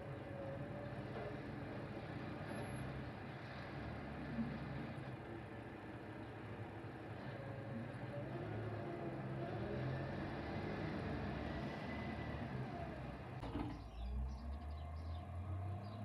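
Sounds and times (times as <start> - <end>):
garbage truck driving past: 0.0 - 16.0.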